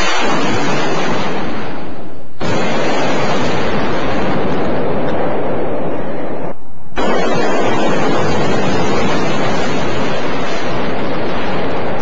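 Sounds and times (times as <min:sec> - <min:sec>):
missile launch roar: 0:00.0 - 0:12.0.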